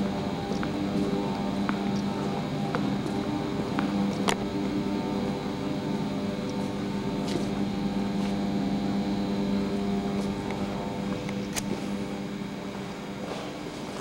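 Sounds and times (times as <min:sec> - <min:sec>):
machine hum with tones: 0:00.0 - 0:14.0.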